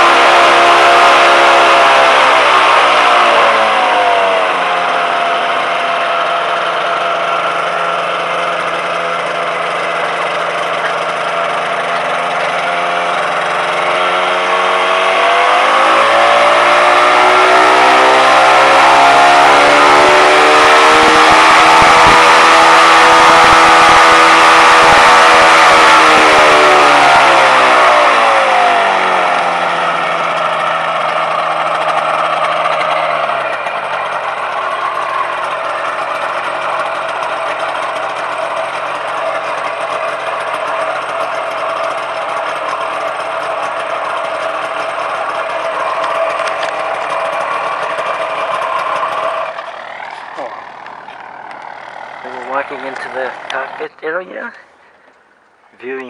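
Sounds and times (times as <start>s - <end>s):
two-stroke engine idling and revving: 0.0s - 56.0s.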